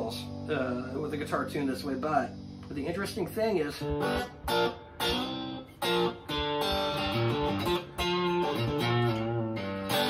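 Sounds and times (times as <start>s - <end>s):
clean electric guitar notes: 0.0s - 10.0s.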